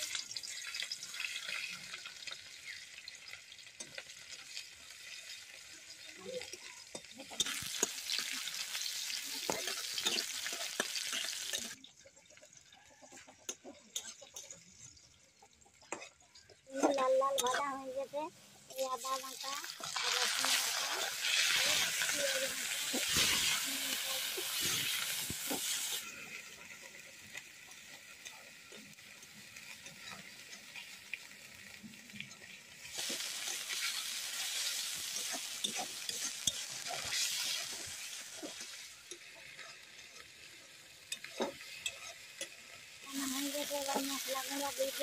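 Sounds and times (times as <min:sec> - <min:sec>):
onions sizzling in oil: 0:00.0 - 0:45.0.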